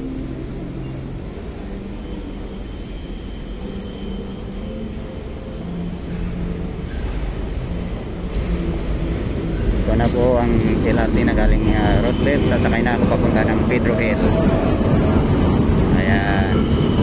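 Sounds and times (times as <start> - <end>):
train approaching rumble: 0.0 - 17.0.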